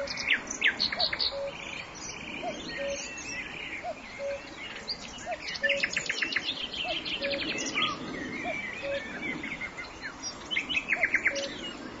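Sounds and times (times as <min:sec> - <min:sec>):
forest birds chirping and trilling: 0:00.0 - 0:12.0.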